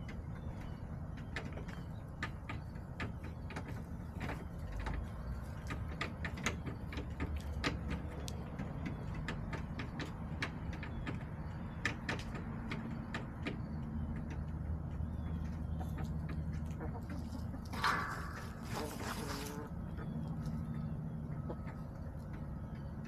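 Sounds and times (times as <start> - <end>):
chickens pecking and scratching: 0.0 - 23.0.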